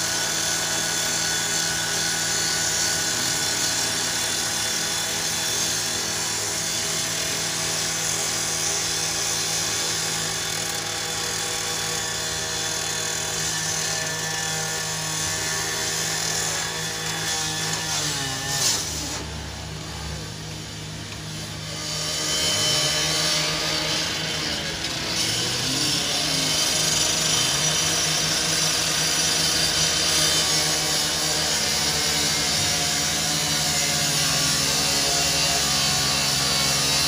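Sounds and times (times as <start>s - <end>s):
rotary saw grinding into steel: 0.0s - 19.4s, 20.7s - 37.0s.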